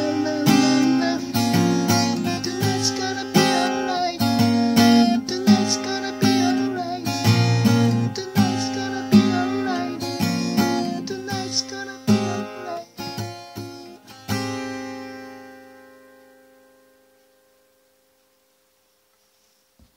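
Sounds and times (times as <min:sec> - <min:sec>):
acoustic guitar strumming chords: 0:00.0 - 0:17.8.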